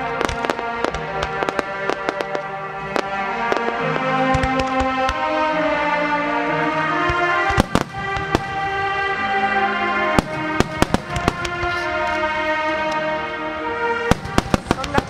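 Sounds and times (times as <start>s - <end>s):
fireworks bursting: 0.0s - 15.0s
melodic music: 0.0s - 15.0s.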